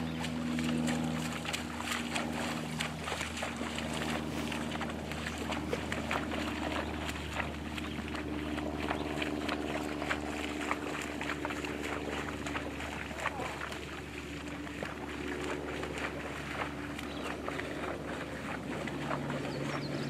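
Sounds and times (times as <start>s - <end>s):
hooves splashing in water: 0.0s - 20.0s
low hum: 0.0s - 20.0s.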